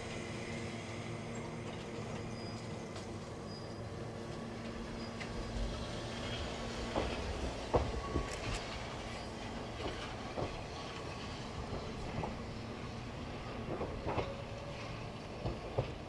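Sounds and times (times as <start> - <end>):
electric train hum: 0.0 - 16.0
train wheels clicking over rail joints: 1.4 - 16.0.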